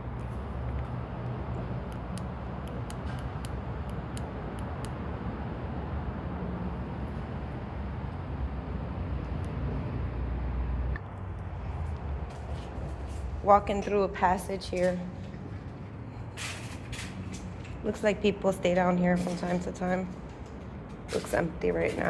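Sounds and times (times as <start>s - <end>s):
rumble of road traffic overhead: 0.0s - 22.0s.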